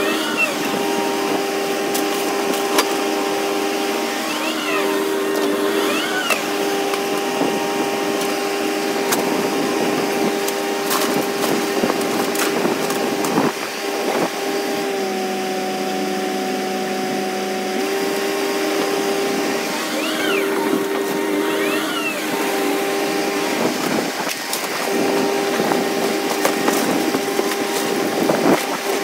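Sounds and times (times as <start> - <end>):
excavator engine humming: 0.0 - 29.0.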